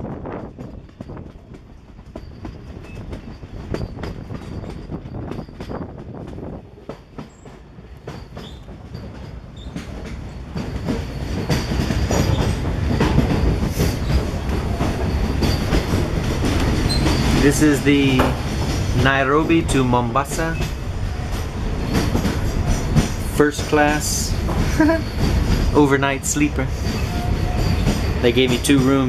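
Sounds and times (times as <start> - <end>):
steady train rumble: 0.0 - 29.0
train wheels clicking over rails: 0.0 - 29.0.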